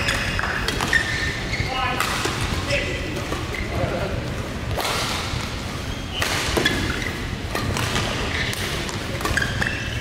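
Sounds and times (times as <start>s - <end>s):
rackets hitting shuttlecock: 0.0s - 3.6s, 4.7s - 10.0s
shoes squeaking on court: 0.0s - 4.0s, 5.8s - 10.0s.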